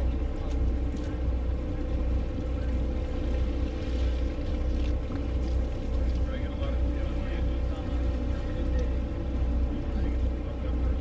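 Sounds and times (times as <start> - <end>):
boat engine idling: 0.0 - 11.0
faint even hum: 0.0 - 11.0.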